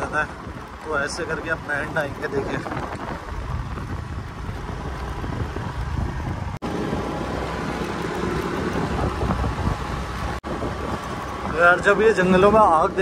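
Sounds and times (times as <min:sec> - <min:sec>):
moving road vehicle: 0:00.0 - 0:13.0
wind rumbling on microphone: 0:00.0 - 0:13.0.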